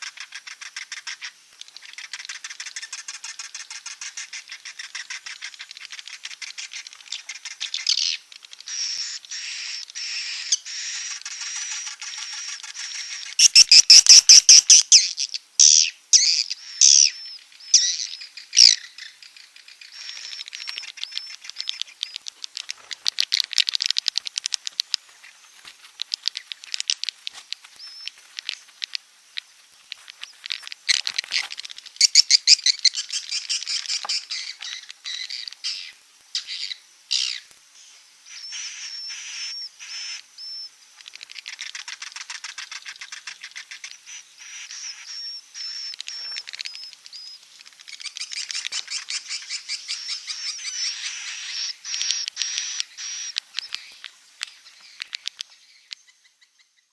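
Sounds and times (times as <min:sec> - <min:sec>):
swiftlet clicking chirps and trills: 0:00.0 - 0:37.5, 0:41.0 - 0:56.4.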